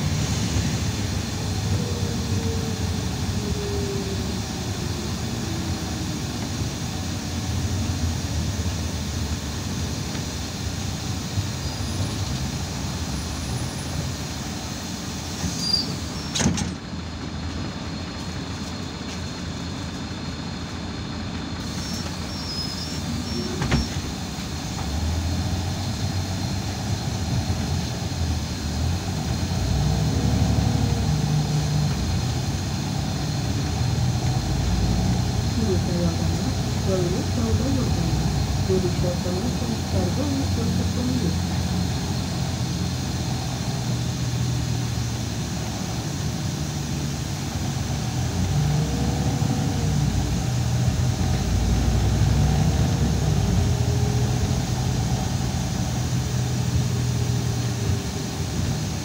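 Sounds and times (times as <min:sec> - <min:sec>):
bus engine rumble: 0:00.0 - 0:59.0
road noise: 0:00.0 - 0:59.0.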